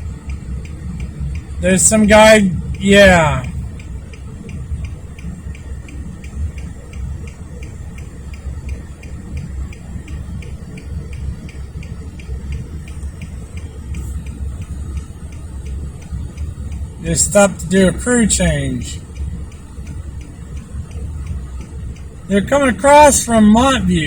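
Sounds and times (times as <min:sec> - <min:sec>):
engine idling: 0:00.0 - 0:24.0
fast even ticking: 0:00.0 - 0:24.0.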